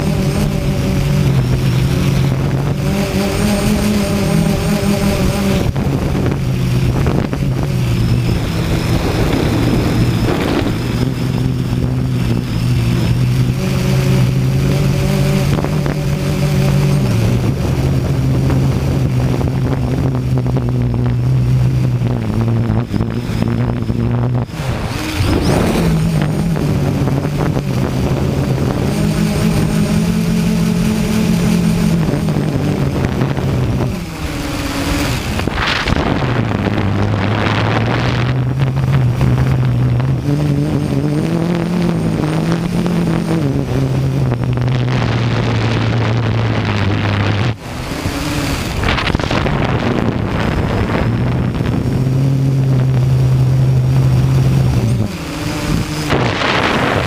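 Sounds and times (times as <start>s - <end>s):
drone motors and propellers humming: 0.0s - 57.0s
wind rushing over microphone: 0.0s - 57.0s.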